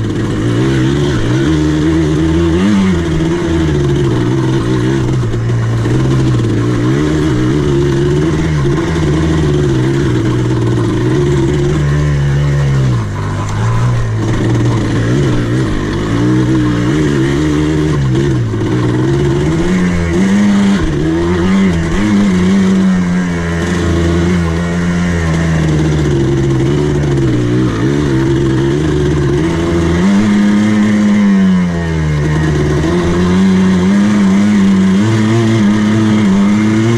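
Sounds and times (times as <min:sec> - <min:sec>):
buggy engine revving: 0:00.0 - 0:36.9.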